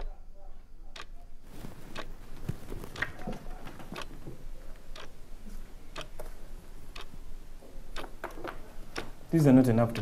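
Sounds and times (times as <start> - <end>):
clock ticking: 0.9 - 5.3, 5.9 - 10.0.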